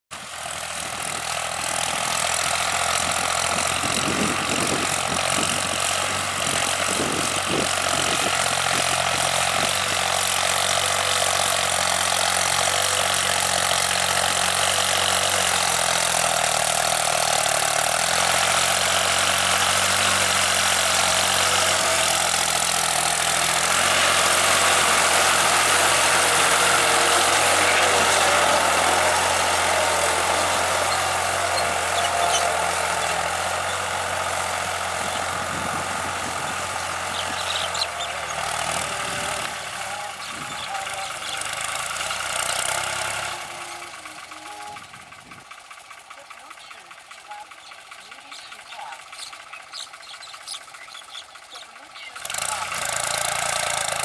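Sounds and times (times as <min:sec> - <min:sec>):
tractor diesel engine under load: 0:00.1 - 0:54.0.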